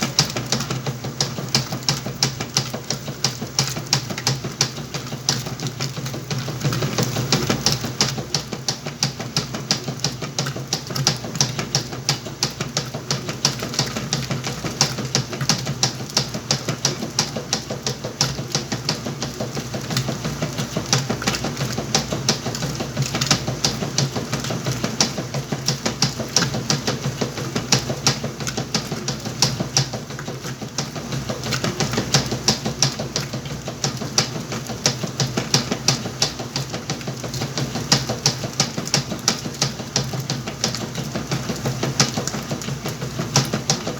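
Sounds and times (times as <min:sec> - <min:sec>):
washing machine motor hum: 0:00.0 - 0:43.9.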